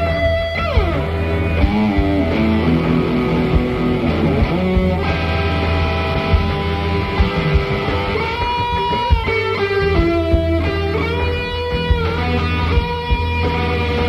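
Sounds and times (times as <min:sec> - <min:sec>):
fuzz electric guitar solo: 0:00.0 - 0:14.0
low backing: 0:00.0 - 0:14.0.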